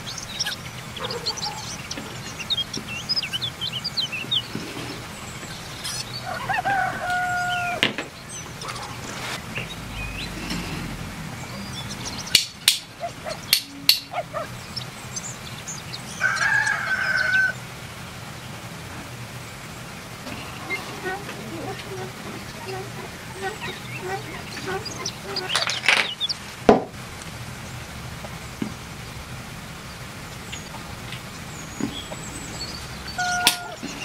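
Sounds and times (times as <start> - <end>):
long held bird calls: 0.0 - 26.7, 27.4 - 34.0
small birds chirping: 0.0 - 34.0
steady low hum: 0.0 - 34.0.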